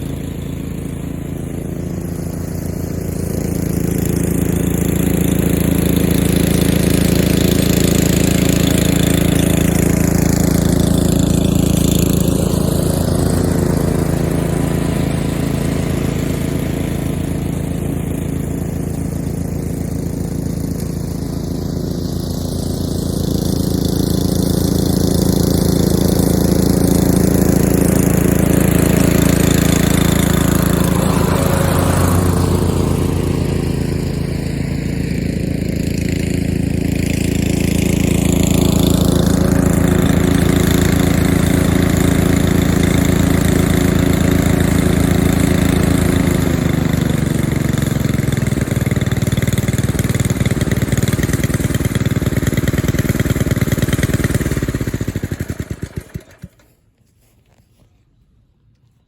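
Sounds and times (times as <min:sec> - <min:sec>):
lawn mower engine running: 0:00.0 - 0:57.4.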